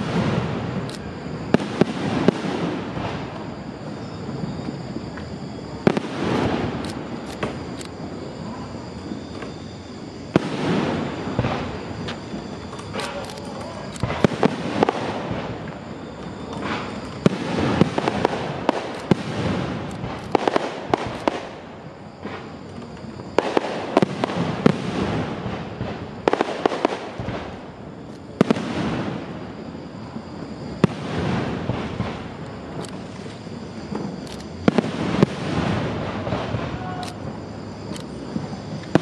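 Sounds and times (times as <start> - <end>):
continuous rushing noise: 0.0 - 39.0
fireworks bursting with bangs: 0.0 - 39.0.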